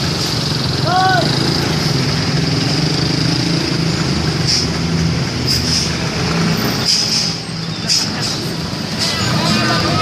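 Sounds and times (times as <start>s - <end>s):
bus engine running: 0.0s - 10.0s.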